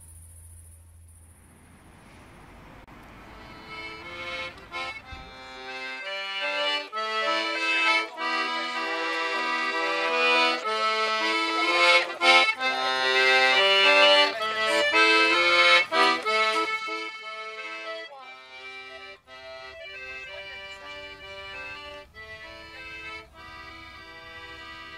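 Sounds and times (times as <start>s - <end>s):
accordion music: 2.9s - 24.9s.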